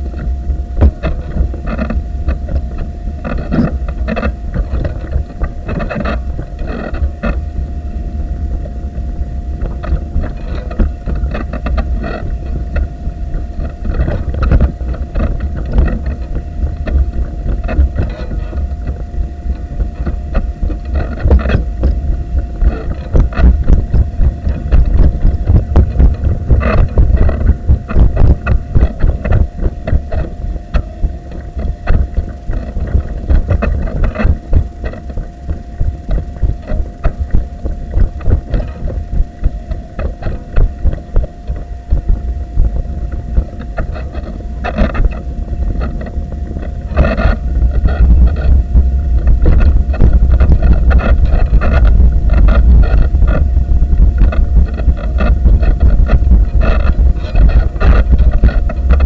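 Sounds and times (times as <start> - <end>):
thin steady whine: 0.0 - 59.0.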